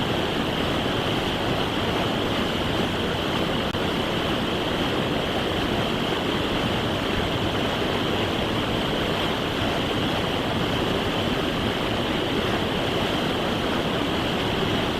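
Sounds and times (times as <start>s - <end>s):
creek water rushing: 0.0s - 14.9s.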